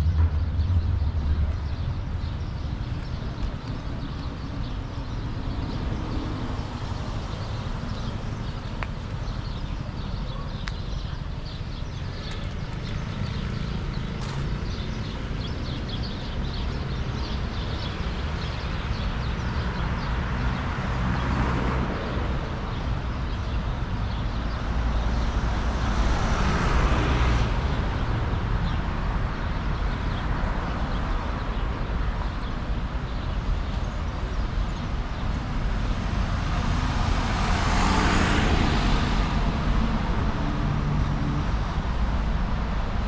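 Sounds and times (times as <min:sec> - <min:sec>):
low traffic rumble: 0:00.0 - 0:43.0
vehicles driving past: 0:00.0 - 0:43.0.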